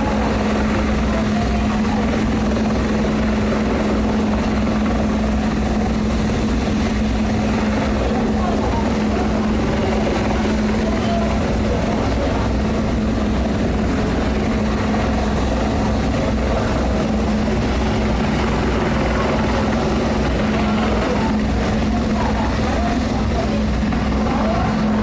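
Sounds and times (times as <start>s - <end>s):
helicopter hovering: 0.0s - 25.0s.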